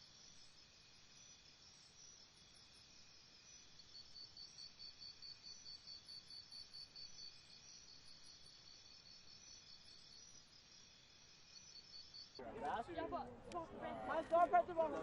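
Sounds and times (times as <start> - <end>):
high insect trills: 0.0 - 13.1
crickets chirping: 0.0 - 15.0.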